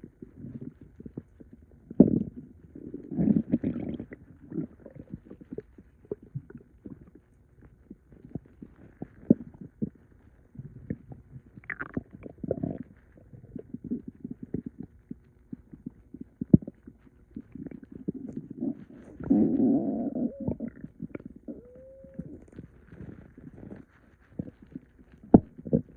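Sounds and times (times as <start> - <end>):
stomach gurgling: 0.0 - 25.9
stomach squeak: 0.2 - 25.9.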